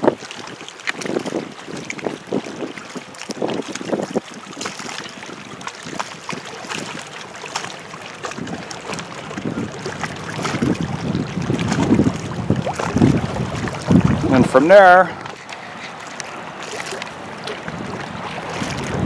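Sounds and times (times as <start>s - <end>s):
rushing water from spillway: 0.0s - 19.0s
wind buffeting microphone: 0.0s - 19.0s.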